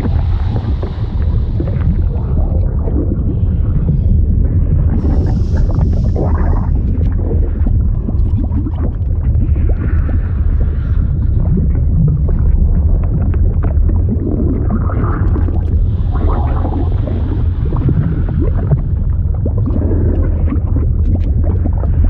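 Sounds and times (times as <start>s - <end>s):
deep steady rumble: 0.0s - 22.0s
liquid bubbling and gurgling: 0.0s - 22.0s.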